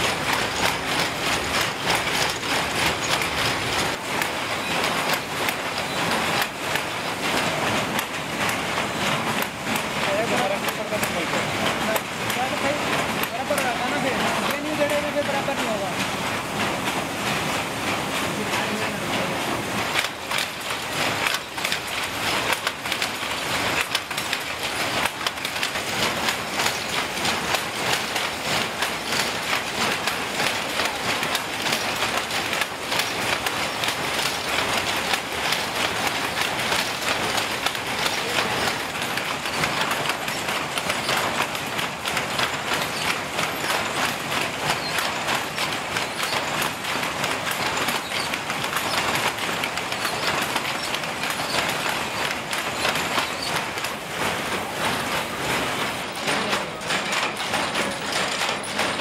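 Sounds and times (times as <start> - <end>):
power looms clattering: 0.0 - 59.0.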